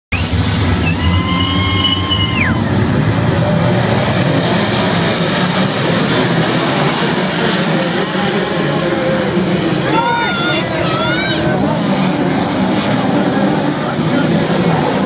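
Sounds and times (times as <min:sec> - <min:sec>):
racing car engines: 0:00.1 - 0:15.0.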